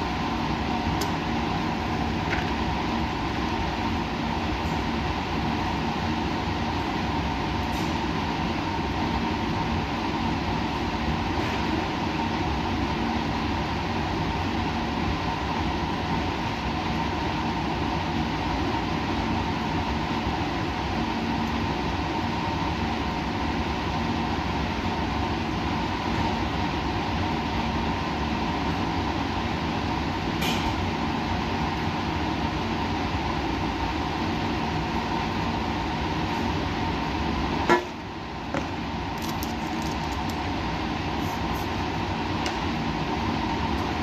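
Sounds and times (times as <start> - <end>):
rumbling white noise: 0.0 - 44.0.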